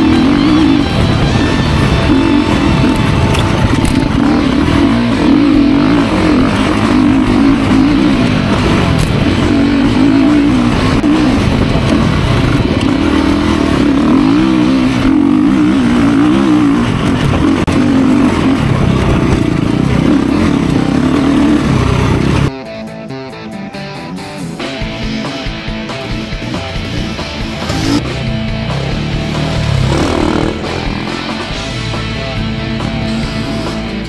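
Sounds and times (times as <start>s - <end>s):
dirt bike engine revving: 0.0s - 22.5s, 24.6s - 34.0s.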